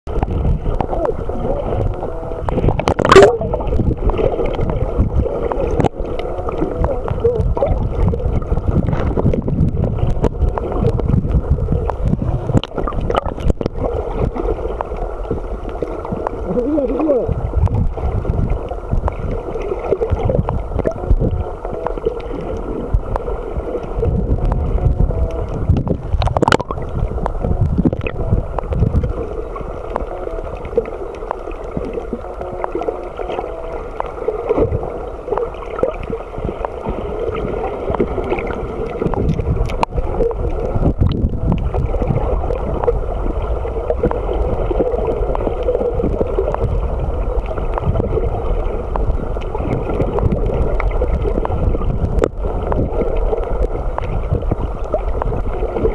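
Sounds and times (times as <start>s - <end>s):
muffled underwater water sloshing: 0.0s - 55.9s.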